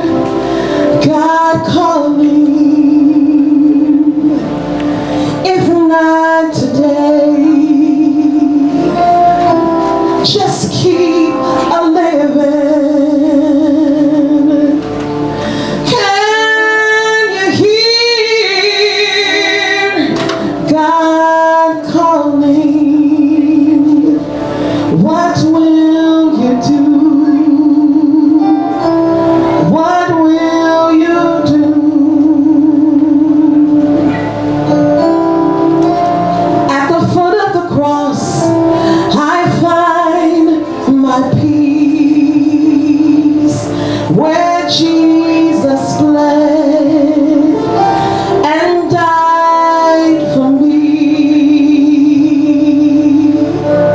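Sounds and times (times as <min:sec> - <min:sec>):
musical accompaniment: 0:00.0 - 0:53.9
woman singing with vibrato: 0:00.0 - 0:53.9.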